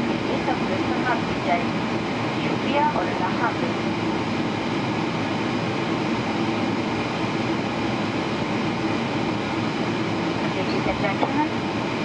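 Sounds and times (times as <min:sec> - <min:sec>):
aircraft cabin rumble: 0:00.0 - 0:12.0
engine noise: 0:00.0 - 0:12.0.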